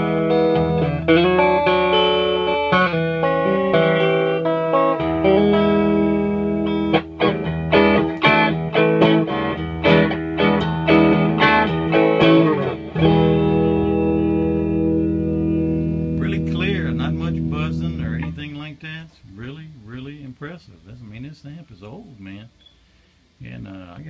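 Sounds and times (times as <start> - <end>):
clean electric guitar: 0.0 - 20.5.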